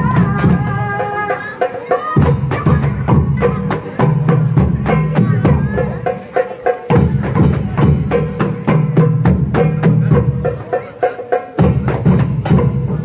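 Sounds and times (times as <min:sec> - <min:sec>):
deep barrel drum: 0:00.0 - 0:01.0, 0:02.2 - 0:10.8, 0:11.6 - 0:13.0
frame drums: 0:00.0 - 0:13.0
hand drums interlocking rhythm: 0:00.0 - 0:13.0.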